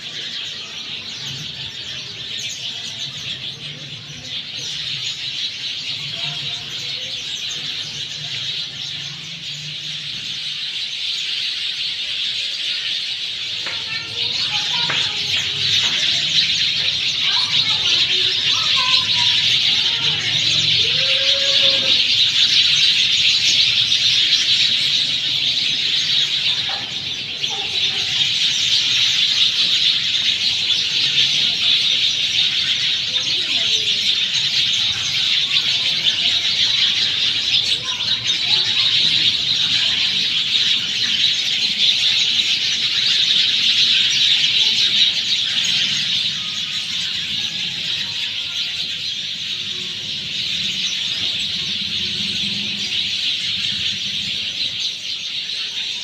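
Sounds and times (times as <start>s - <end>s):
flock of small birds chirping: 0.0s - 56.0s.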